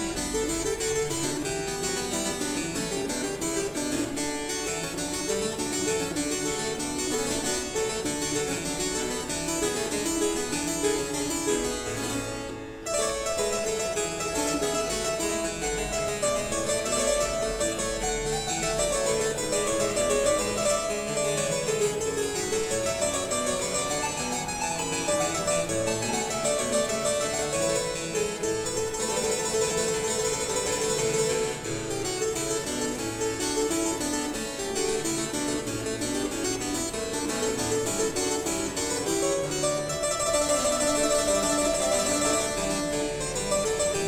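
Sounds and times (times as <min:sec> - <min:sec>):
baroque chamber ensemble: 0:00.0 - 0:44.0
harpsichord runs: 0:00.0 - 0:44.0.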